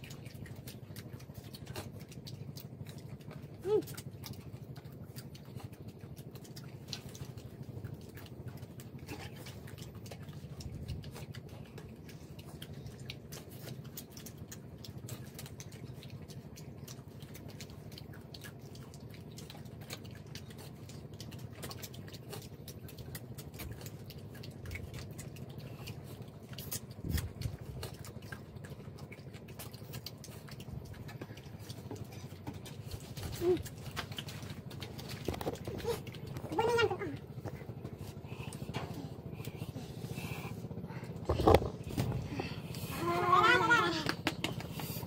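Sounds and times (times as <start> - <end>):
shrimp shells peeled and chewed: 0.0 - 36.6
steady low hum: 0.0 - 45.0.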